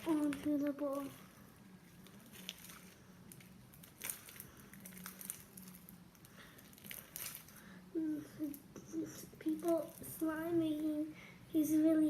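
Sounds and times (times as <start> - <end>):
slime squelching and crackling: 0.0 - 7.7, 8.4 - 10.9.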